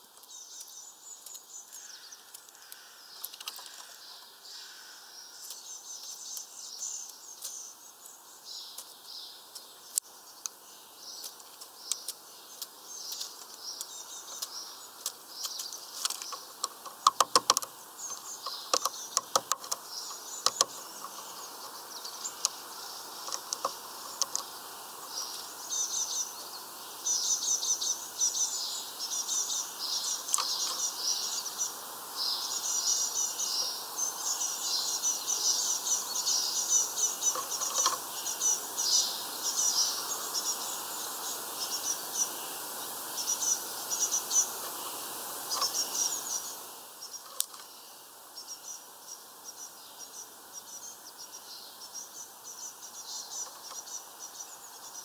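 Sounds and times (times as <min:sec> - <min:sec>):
small songbirds chirping: 0:00.0 - 0:55.0.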